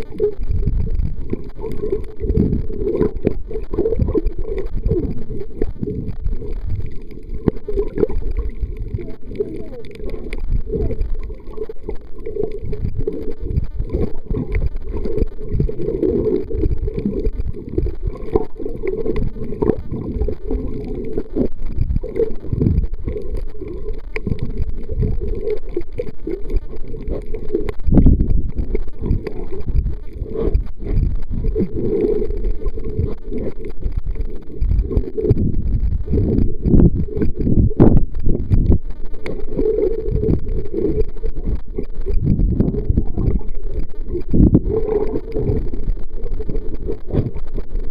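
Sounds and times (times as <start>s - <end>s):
muffled underwater rumble: 0.0s - 47.9s.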